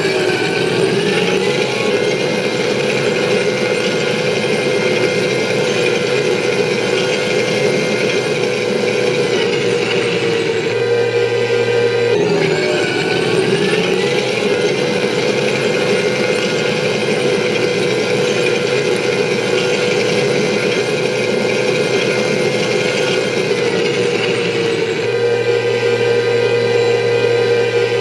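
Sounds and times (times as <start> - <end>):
turbine engine whine from speaker: 0.0 - 28.0.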